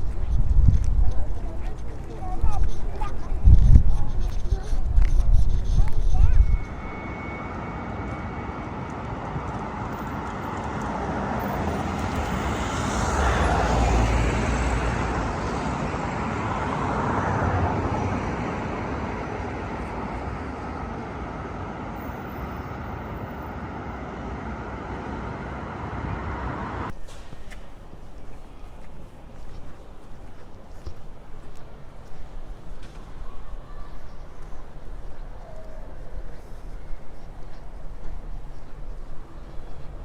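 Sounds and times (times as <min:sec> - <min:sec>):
vehicles passing: 0:00.0 - 0:40.0.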